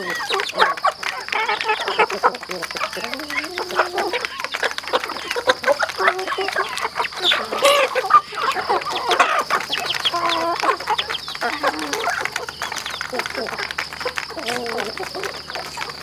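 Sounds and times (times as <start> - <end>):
chickens clucking: 0.0 - 16.0
chickens squawking: 0.0 - 16.0.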